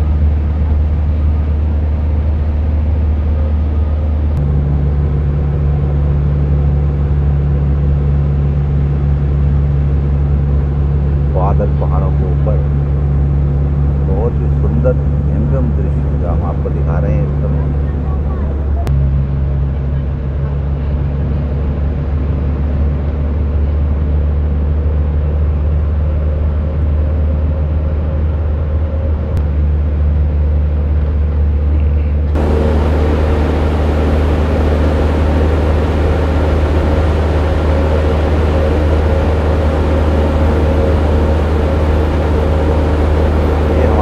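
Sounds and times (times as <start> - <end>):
bus engine droning: 0.0 - 44.0
road and wind noise: 0.0 - 44.0.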